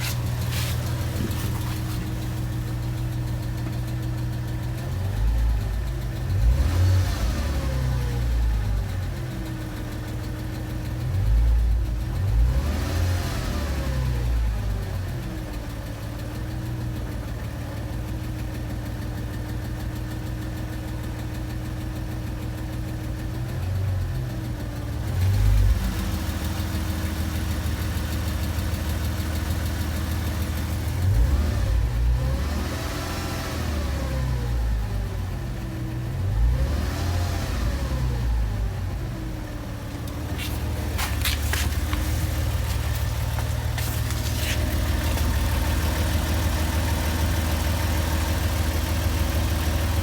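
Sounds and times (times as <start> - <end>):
car engine idling with ticking: 0.0 - 50.0.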